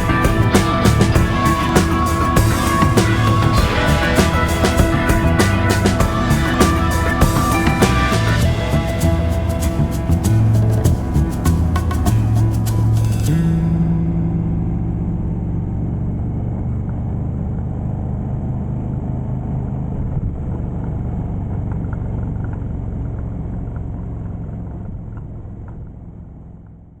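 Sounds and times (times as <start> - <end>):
low vehicle rumble: 0.0 - 26.8.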